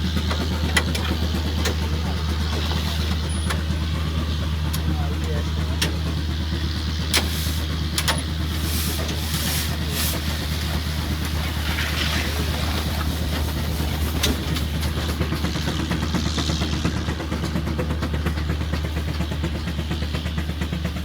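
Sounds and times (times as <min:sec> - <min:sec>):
engine running with low pulse: 0:00.0 - 0:21.0.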